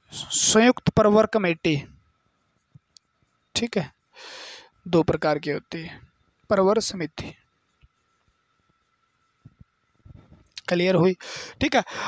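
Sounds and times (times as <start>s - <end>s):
faint high-pitched hum: 0.0s - 12.0s.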